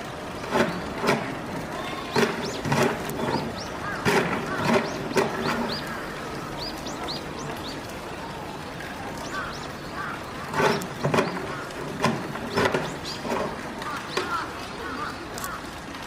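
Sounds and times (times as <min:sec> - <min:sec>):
murmur of voices: 0:00.0 - 0:15.8
small birds chirping: 0:01.8 - 0:08.4, 0:09.1 - 0:15.6.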